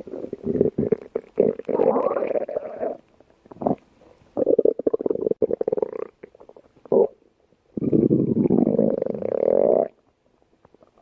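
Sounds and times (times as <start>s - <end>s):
stomach growling: 0.0s - 7.2s, 7.8s - 10.0s.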